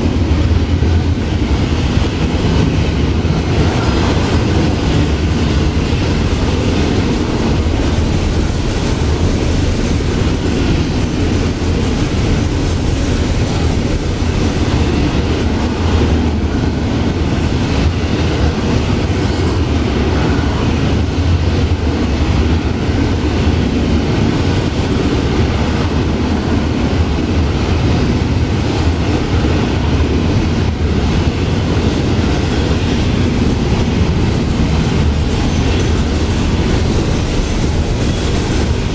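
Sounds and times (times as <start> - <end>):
freight train rumbling: 0.0 - 38.9
wheels clattering on rails: 0.0 - 38.9.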